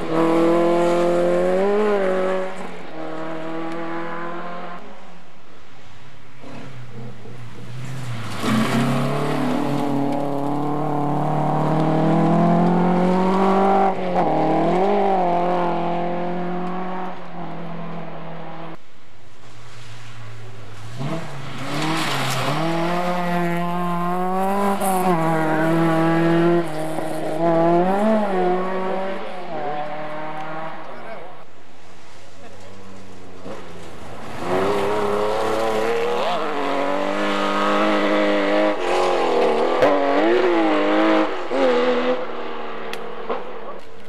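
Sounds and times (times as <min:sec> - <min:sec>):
rally car engine revving: 0:00.0 - 0:05.2, 0:06.3 - 0:18.8, 0:19.5 - 0:44.0.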